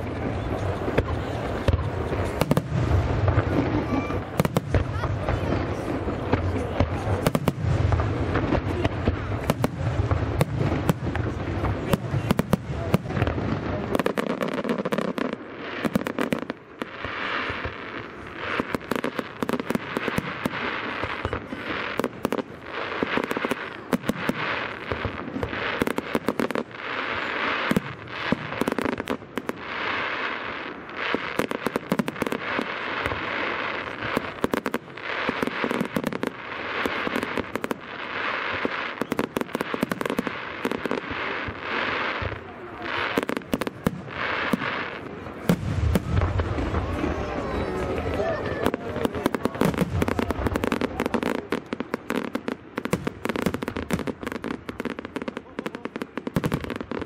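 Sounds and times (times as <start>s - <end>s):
fireworks crackling: 0.0s - 57.0s
fireworks pops and bangs: 0.0s - 57.0s
low fireworks booms: 0.0s - 57.0s.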